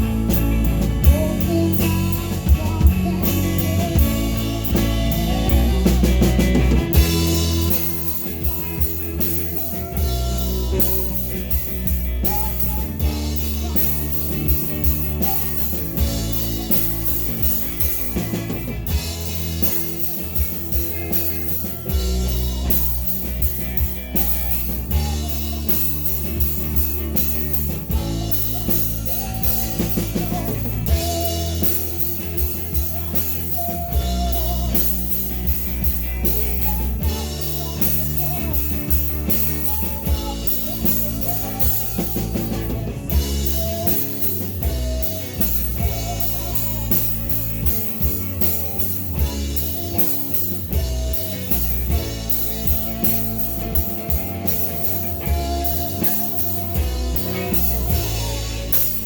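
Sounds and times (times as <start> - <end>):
drum kit pounding: 0.0 - 59.0
rock band playing live: 0.0 - 59.0.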